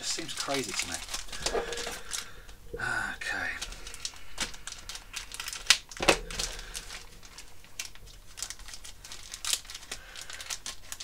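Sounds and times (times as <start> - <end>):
plastic bag crinkling: 0.0 - 2.6, 3.2 - 11.0.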